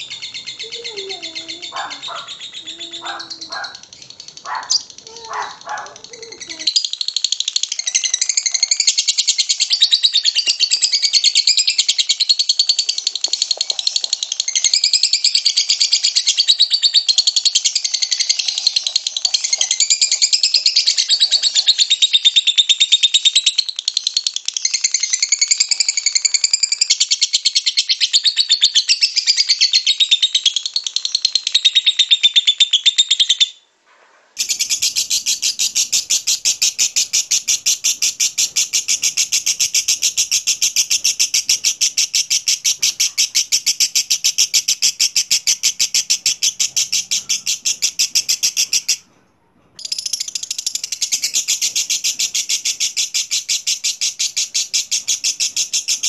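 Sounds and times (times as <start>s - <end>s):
lovebird chattering trill: 0.0s - 33.6s, 34.4s - 49.0s, 49.8s - 56.0s.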